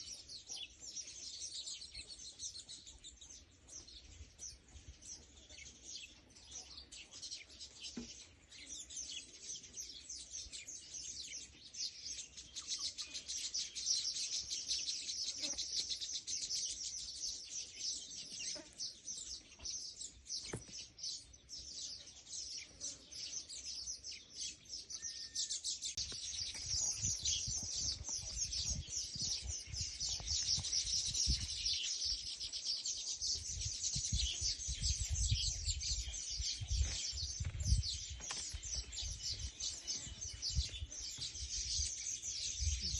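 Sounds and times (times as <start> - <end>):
small birds twittering: 0.0 - 42.9.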